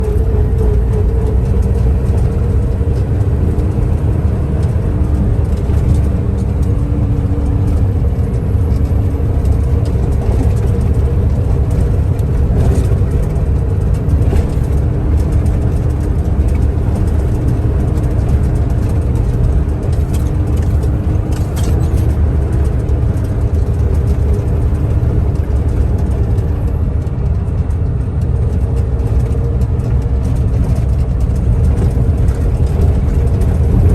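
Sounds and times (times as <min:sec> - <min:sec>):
diesel truck engine rumble: 0:00.0 - 0:33.9.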